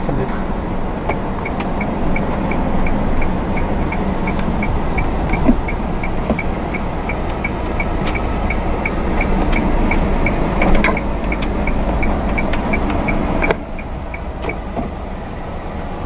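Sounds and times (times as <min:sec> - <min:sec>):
turn signal ticking: 0:00.0 - 0:16.0
vehicle engine and road noise: 0:00.0 - 0:16.0.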